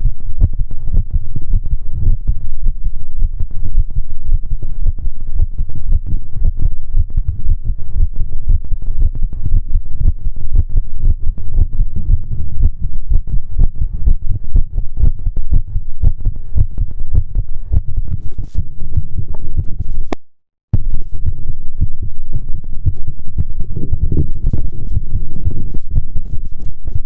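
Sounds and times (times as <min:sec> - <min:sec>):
heartbeat thumps: 0:00.0 - 0:20.1, 0:20.8 - 0:27.0.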